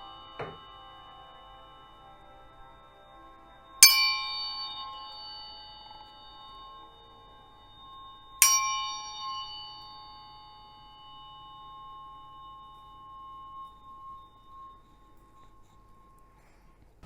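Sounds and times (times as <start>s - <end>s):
tuning fork ringing: 0.0s - 17.0s.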